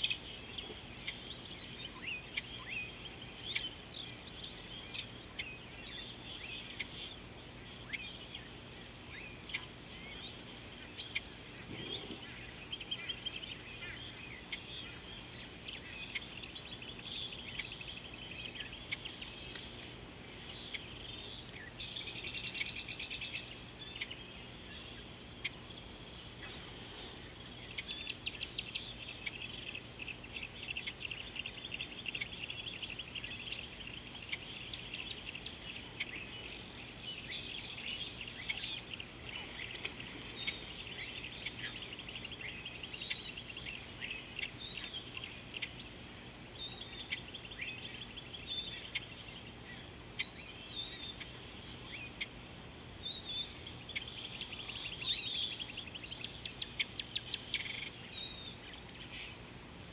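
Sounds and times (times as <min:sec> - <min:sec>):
birds chirping and singing: 0:00.0 - 0:52.4, 0:53.0 - 0:59.5
faint low hum: 0:00.0 - 0:59.9.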